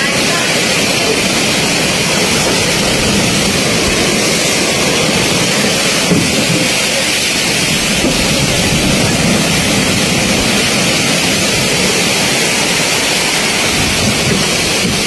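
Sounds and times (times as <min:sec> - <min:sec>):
heavy rain and wind hiss: 0:00.0 - 0:15.0.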